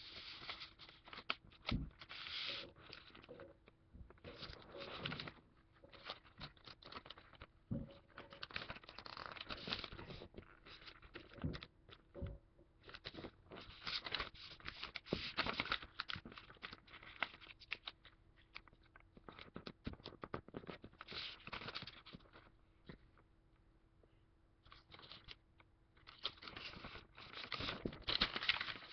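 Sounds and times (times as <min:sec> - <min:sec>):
paper rustling and crinkling: 0:00.0 - 0:11.7, 0:12.8 - 0:22.5, 0:24.6 - 0:25.4, 0:26.0 - 0:28.9.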